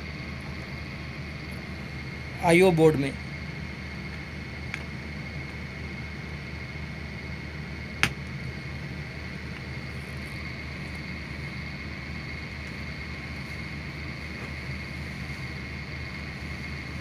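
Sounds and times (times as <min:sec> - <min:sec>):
background hum with high whine: 0:00.0 - 0:17.0.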